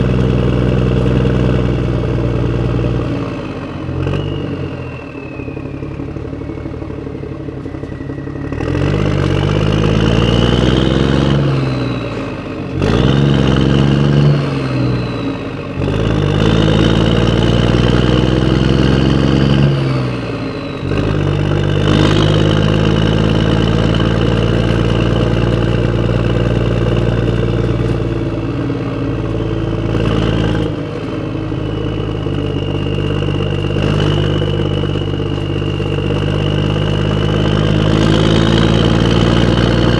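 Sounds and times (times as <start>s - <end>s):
vehicle engine accelerating: 0.0s - 39.9s.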